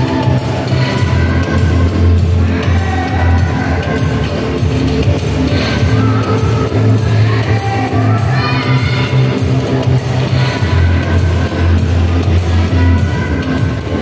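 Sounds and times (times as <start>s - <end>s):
background music with strong bass: 0.0s - 14.0s.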